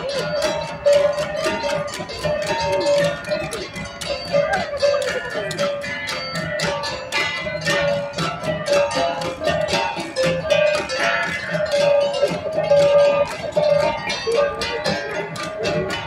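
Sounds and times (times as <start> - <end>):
gong ensemble playing: 0.0 - 16.0.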